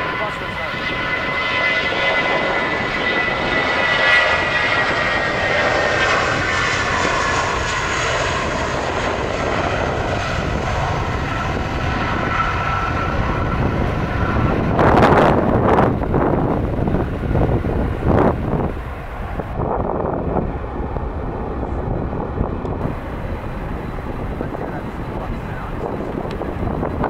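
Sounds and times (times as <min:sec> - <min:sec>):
airliner engines passing: 0:00.0 - 0:27.0.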